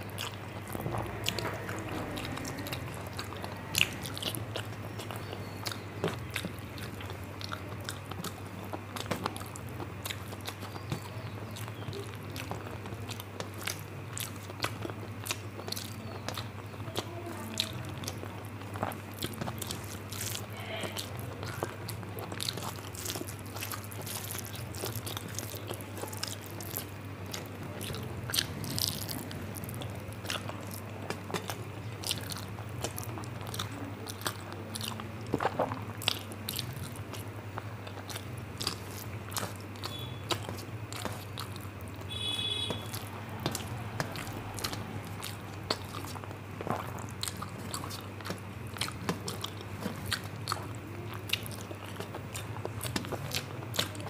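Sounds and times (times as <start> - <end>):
steady low hum: 0.0 - 54.0
wet chewing and mouth clicks: 0.0 - 54.0.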